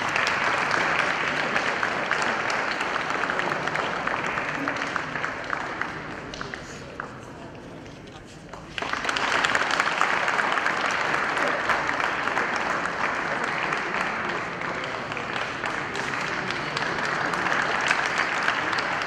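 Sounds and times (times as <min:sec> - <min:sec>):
crowd applauding: 0:00.0 - 0:07.1, 0:08.6 - 0:19.0.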